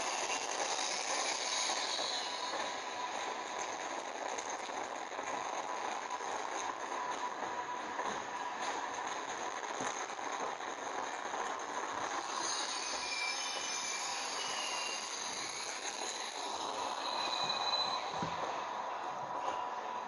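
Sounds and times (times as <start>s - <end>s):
train running noise: 0.0s - 20.0s
train wheels squealing on rails: 0.0s - 20.0s.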